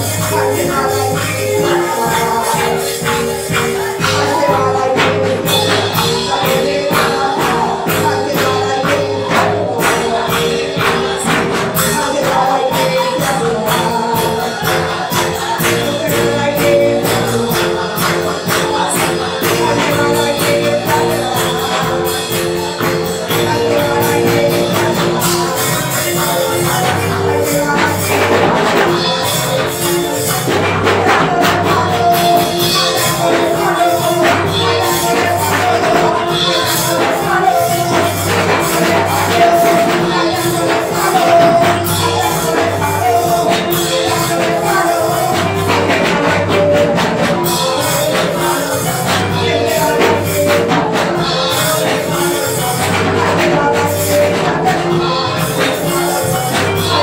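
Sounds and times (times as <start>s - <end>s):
drum kit: 0.0s - 57.0s
electric keyboard: 0.0s - 57.0s
women singing: 0.0s - 57.0s.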